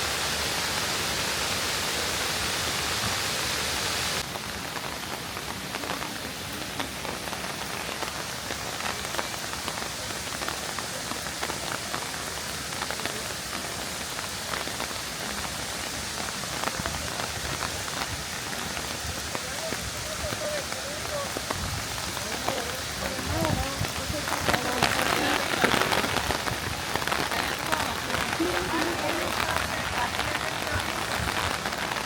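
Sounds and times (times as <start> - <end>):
rain falling: 0.0 - 32.0
waterfall rushing: 0.0 - 32.0.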